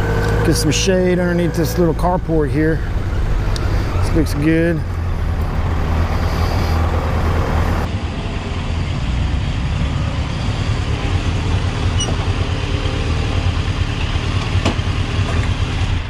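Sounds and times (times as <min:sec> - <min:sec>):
motorcycle engine at low speed: 0:00.0 - 0:16.0.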